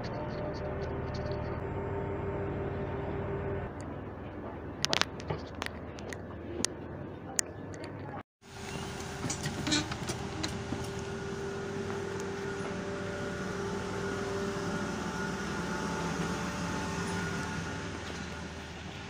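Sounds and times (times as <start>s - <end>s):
train machinery humming: 0.0s - 19.0s.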